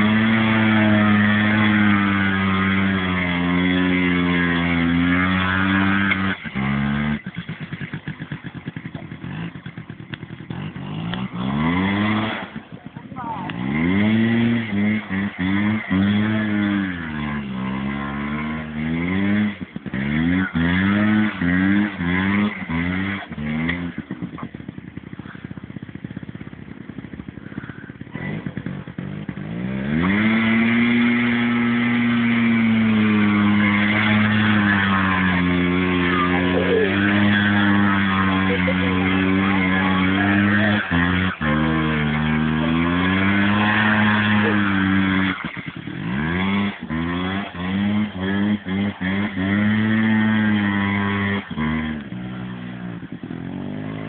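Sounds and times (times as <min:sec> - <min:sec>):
small atv engine revving: 0:00.0 - 0:54.0.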